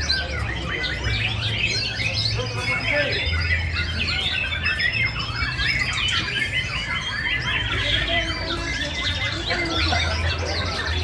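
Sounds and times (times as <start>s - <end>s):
songbirds chorus: 0.0s - 11.0s.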